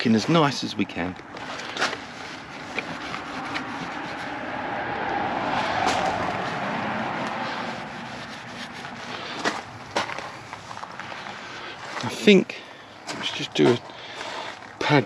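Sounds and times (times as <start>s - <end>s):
vehicle passing: 1.2s - 15.0s.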